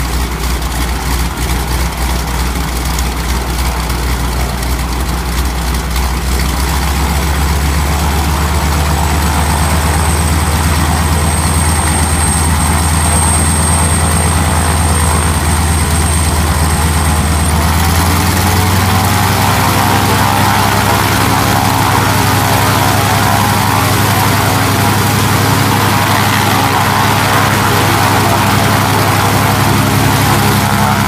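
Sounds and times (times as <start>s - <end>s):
radial aircraft engine running: 0.0s - 31.0s.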